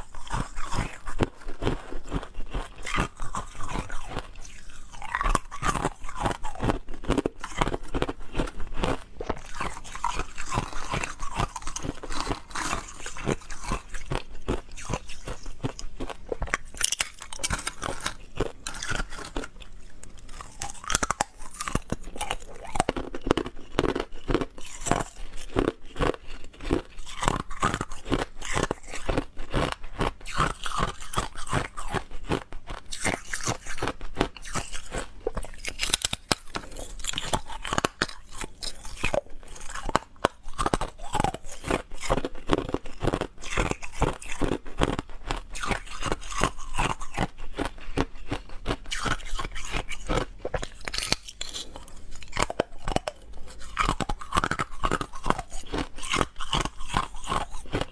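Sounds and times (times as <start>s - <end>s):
ice crunching between teeth: 0.0s - 57.9s.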